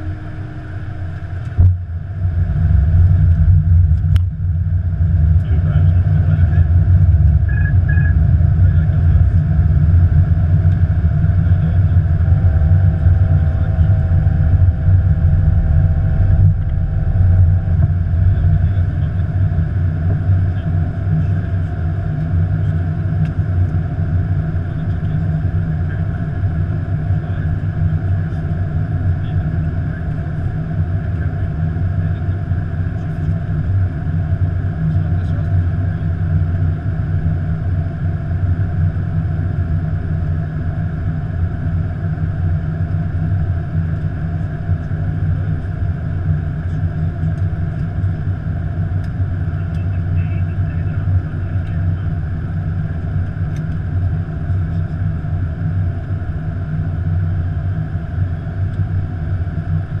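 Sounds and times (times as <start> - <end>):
low rumble of air and engines: 0.0 - 60.0.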